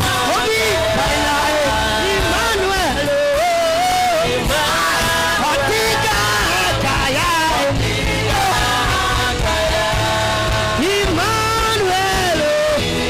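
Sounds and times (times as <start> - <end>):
keyboard and bass backing: 0.0 - 13.0.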